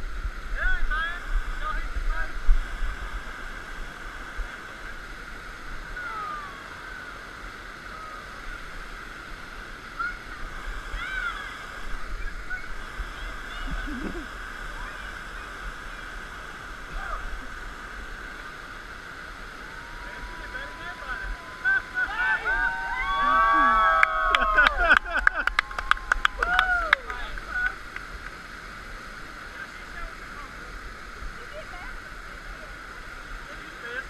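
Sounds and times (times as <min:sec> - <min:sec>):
whitewater rapids rushing: 0:00.0 - 0:34.0.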